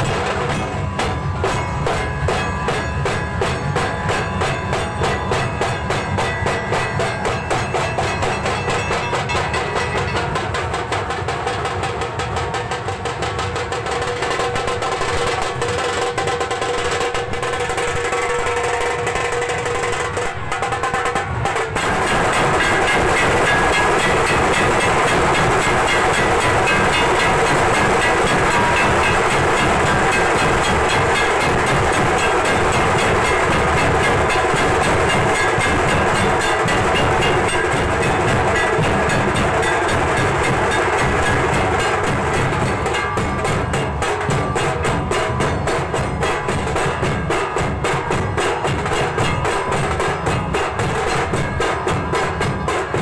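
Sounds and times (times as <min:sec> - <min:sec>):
barrel drums beaten with sticks: 0:00.0 - 0:53.0.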